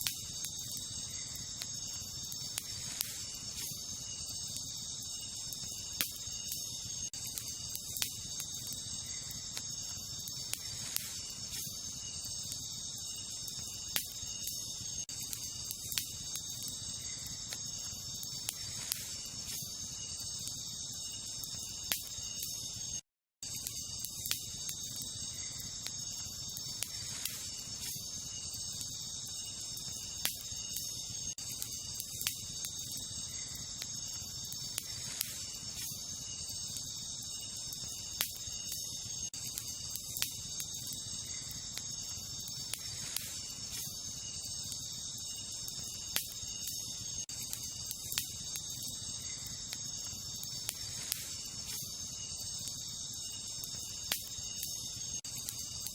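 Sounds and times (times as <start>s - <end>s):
campfire crackling and popping: 0.0s - 55.9s
crickets chirping: 0.0s - 55.9s.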